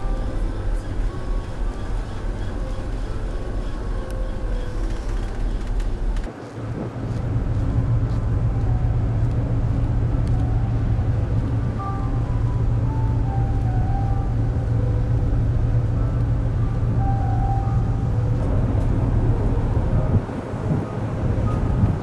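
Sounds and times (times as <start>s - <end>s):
ferry engine drone: 0.0s - 22.0s.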